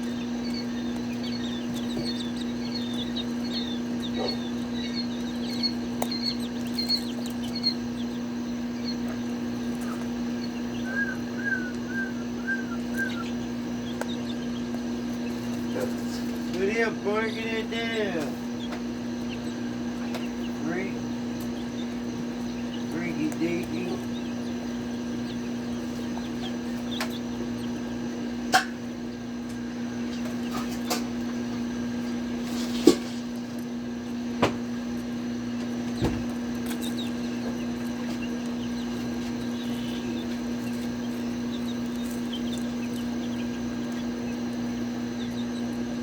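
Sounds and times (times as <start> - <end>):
chickens clucking: 0.0 - 46.0
low electrical hum: 0.0 - 46.0.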